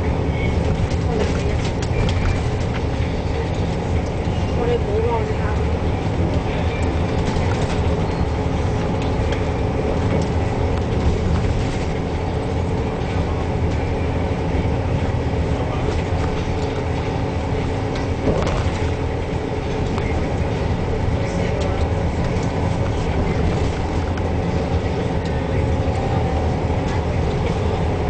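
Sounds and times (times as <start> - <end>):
bus engine drone: 0.0 - 28.0
road rumble: 0.0 - 28.0.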